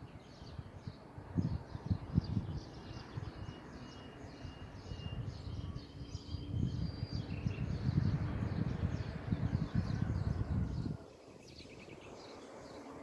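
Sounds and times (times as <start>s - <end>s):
small birds chirping: 0.0s - 13.0s
wind buffeting microphone: 0.0s - 13.0s.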